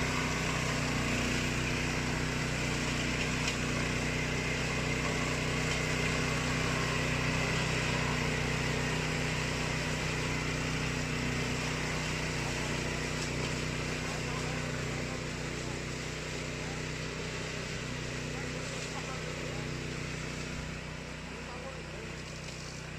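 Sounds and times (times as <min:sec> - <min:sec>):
mower engine running: 0:00.0 - 0:22.9.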